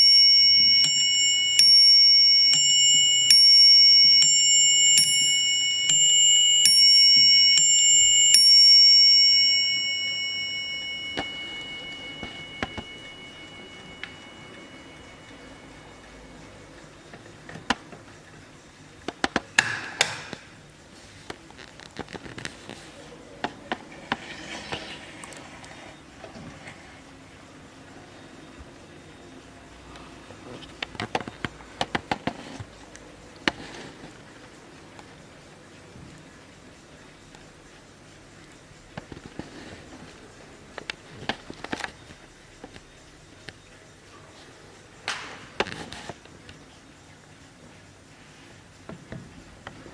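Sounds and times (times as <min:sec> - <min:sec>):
faint steady background noise: 0:00.0 - 0:49.9.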